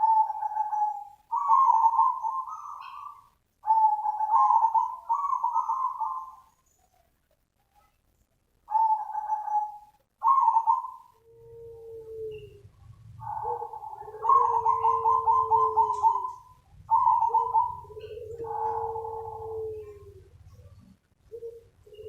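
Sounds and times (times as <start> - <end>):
lower drawn-out coo: 0.0 - 6.5, 8.7 - 22.0
dove cooing rippling notes: 0.0 - 6.6, 8.7 - 22.0.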